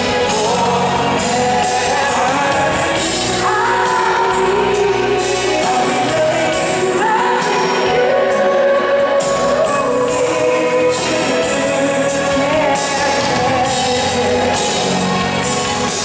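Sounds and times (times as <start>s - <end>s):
man singing through pa: 0.0s - 15.2s
live band playing: 0.0s - 16.0s.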